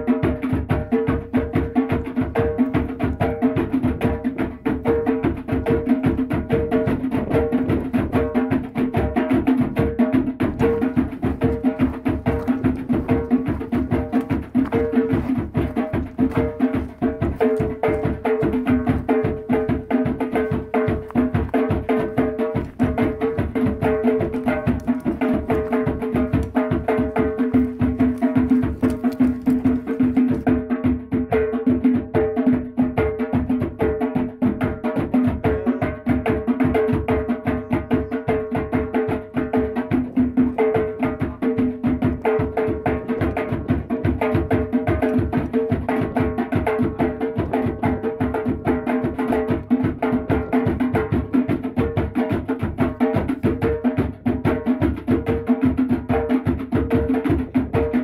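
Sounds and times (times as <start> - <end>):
hand drum beat: 0.0 - 58.0.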